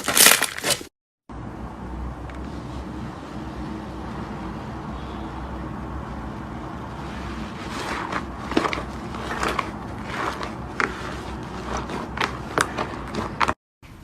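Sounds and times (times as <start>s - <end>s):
low steady hum: 1.3s - 14.0s.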